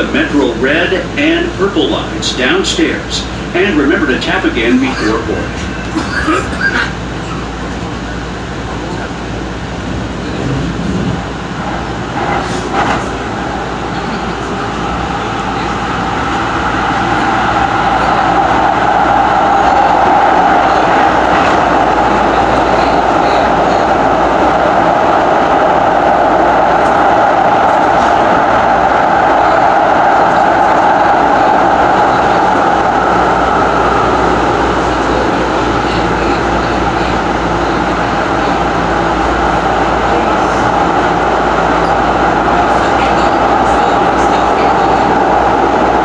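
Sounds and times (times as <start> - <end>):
train running on rails: 0.0 - 46.0.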